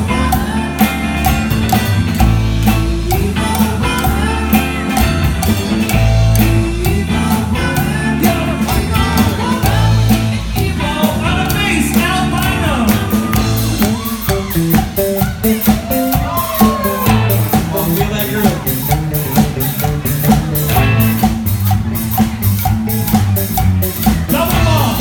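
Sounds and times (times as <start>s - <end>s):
rock song with singing: 0.0s - 25.0s.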